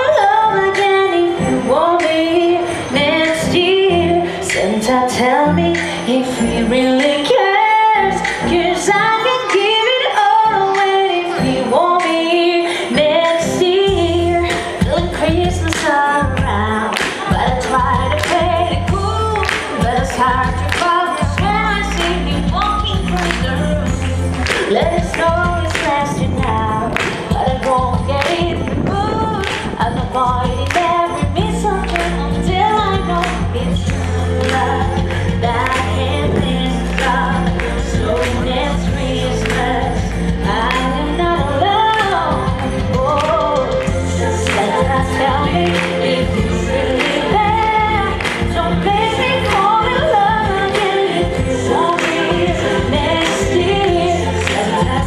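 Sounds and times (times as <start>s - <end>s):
backing music with beat and bass: 0.0s - 55.0s
woman singing: 0.0s - 55.0s.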